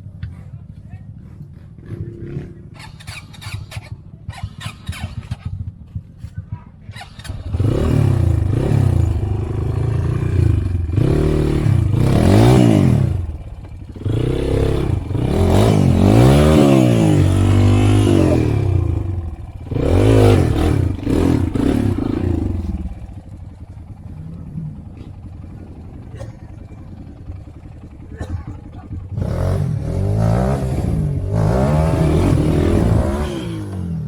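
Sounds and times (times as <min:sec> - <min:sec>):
motorcycle engine revving: 0:01.8 - 0:34.0.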